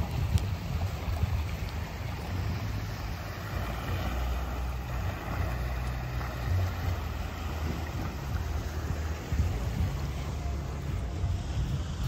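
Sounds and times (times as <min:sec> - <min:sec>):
steady outdoor hiss: 0:00.0 - 0:12.0
wind buffeting microphone: 0:00.0 - 0:12.0.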